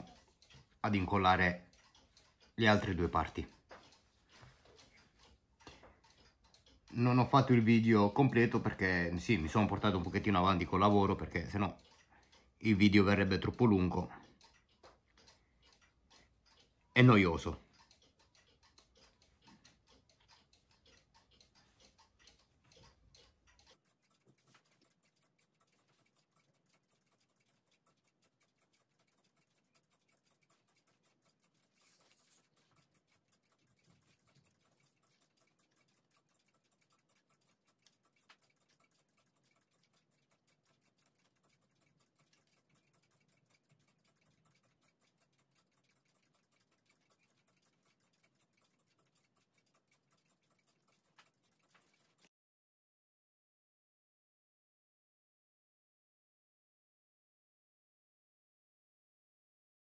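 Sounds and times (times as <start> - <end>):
rapid steady ticking: 0.0 - 52.3.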